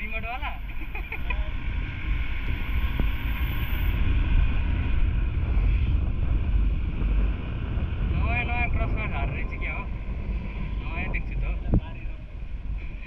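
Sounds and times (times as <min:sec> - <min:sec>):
road noise: 0:00.0 - 0:13.0
wind rushing over microphone: 0:00.0 - 0:13.0.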